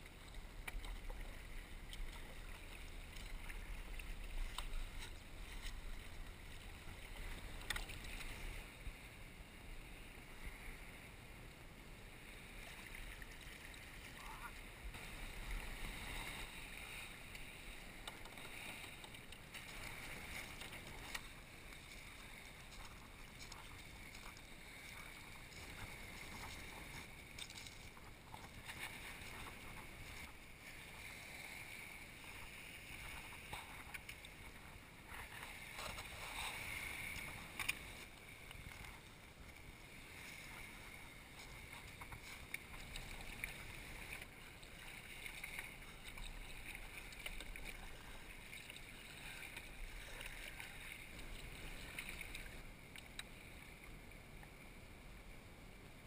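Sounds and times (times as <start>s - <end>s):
small waves lapping: 0.0s - 56.0s
wind: 0.0s - 56.0s.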